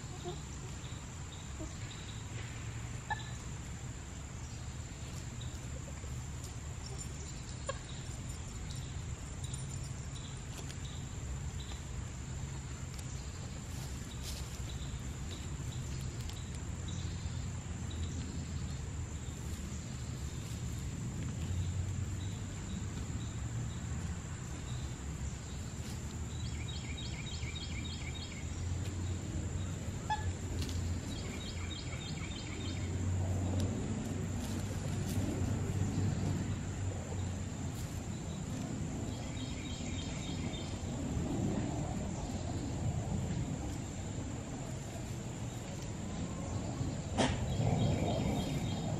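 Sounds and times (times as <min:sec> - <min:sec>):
high insect drone: 0:00.0 - 0:48.9
rustling and scratching in dry leaves: 0:00.0 - 0:48.9.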